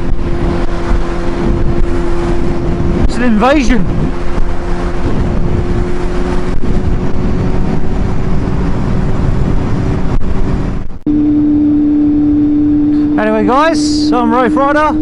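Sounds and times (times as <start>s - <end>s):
heavy wind rush: 0.0s - 15.0s
motorcycle engine running: 0.0s - 15.0s.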